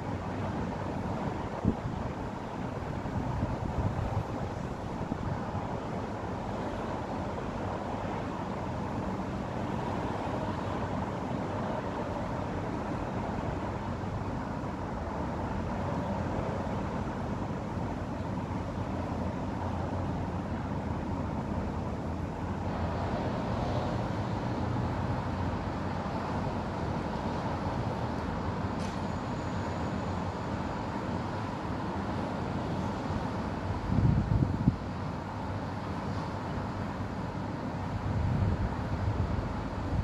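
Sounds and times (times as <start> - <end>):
distant road traffic hum: 0.0 - 40.0.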